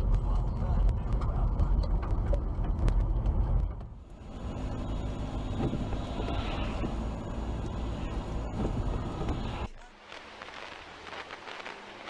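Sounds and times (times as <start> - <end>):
car engine running: 0.0 - 9.8
road rumble: 0.0 - 12.0.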